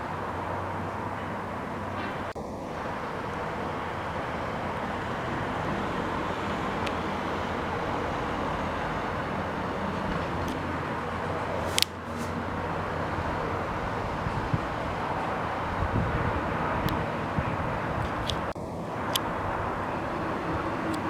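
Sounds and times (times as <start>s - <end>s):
traffic background noise: 0.0s - 21.0s.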